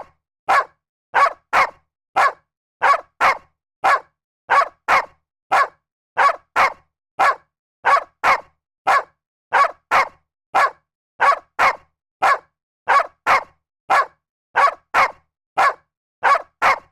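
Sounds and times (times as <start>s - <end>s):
dog barking: 0.0s - 16.9s.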